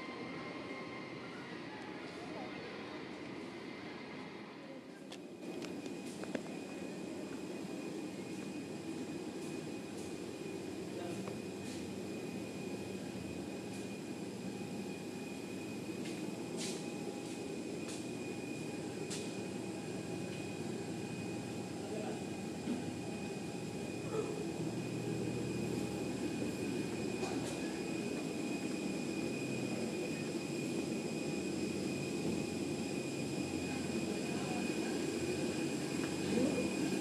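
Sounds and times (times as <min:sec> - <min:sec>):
jet engines humming: 0:00.0 - 0:37.0
thin high whine: 0:00.0 - 0:37.0.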